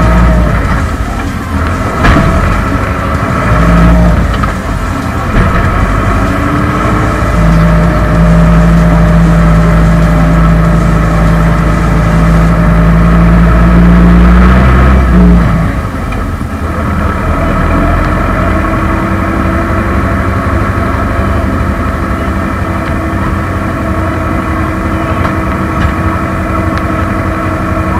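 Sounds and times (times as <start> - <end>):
tractor diesel engine revving: 0.0 - 27.9.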